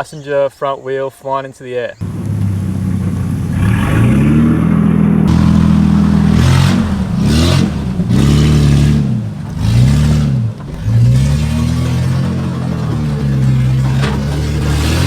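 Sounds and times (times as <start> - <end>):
engine revving without exhaust: 2.0 - 15.0.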